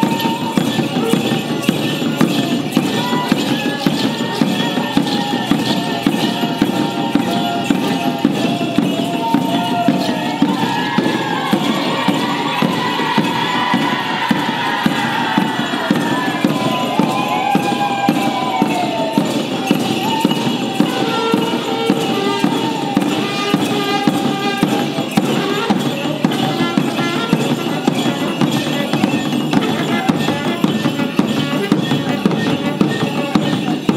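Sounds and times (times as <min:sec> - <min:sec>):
jingling percussive dance music: 0:00.0 - 0:33.9.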